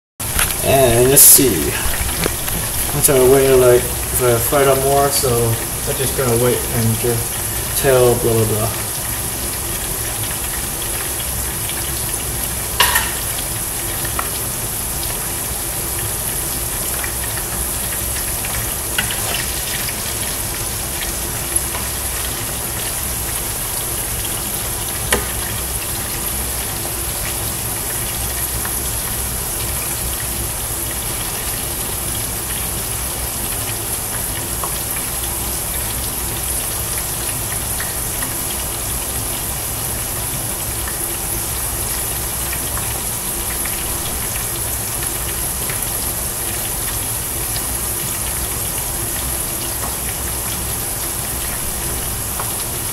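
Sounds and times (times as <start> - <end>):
oil sizzling in a deep pot: 0.2 - 52.9.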